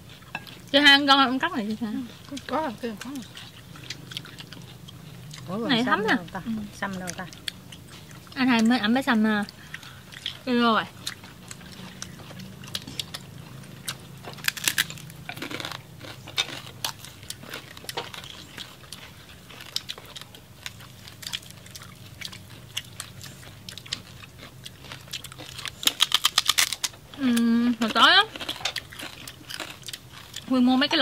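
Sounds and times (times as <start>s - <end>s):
crunchy pork skin chewing: 0.0s - 31.0s.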